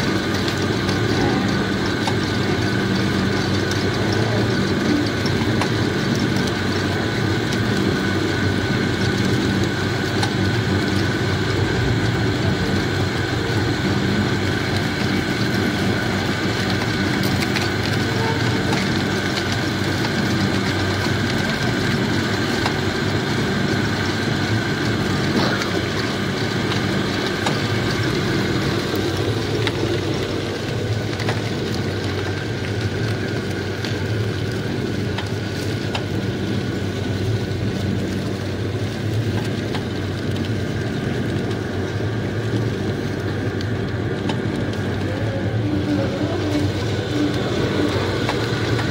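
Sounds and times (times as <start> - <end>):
sugarcane crusher droning: 0.0 - 48.9.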